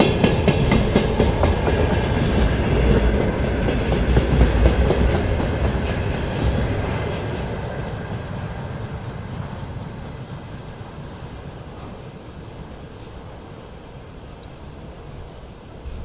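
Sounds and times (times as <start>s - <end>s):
freight train wheels clattering: 0.0s - 13.2s
low train rumble: 0.0s - 16.0s.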